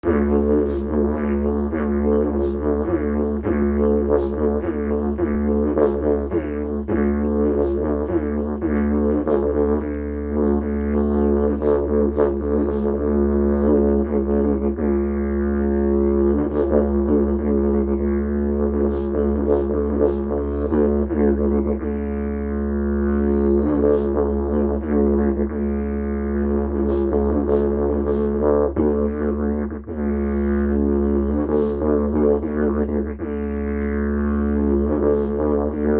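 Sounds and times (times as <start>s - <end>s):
didgeridoo drone: 0.0s - 35.9s.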